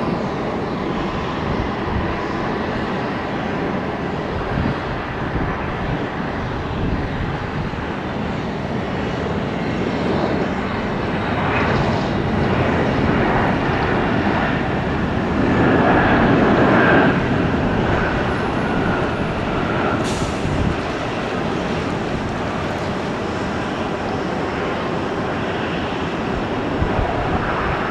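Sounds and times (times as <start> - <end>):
jet airliner engines passing: 0.0 - 27.9.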